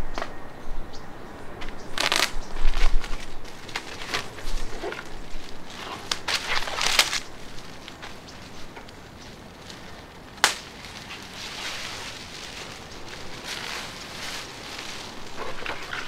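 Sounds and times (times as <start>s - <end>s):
plastic wrapping crinkling: 2.0s - 16.0s.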